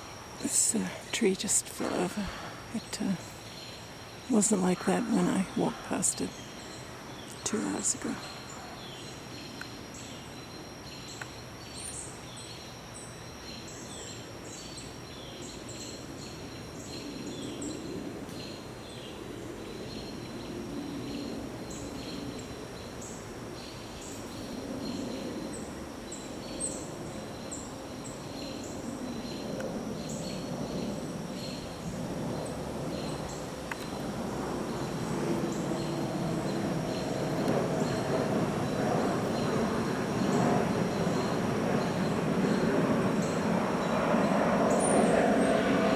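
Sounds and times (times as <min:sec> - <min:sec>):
birds chirping: 0:00.0 - 0:26.8, 0:27.4 - 0:45.9
high insect drone: 0:00.0 - 0:45.9.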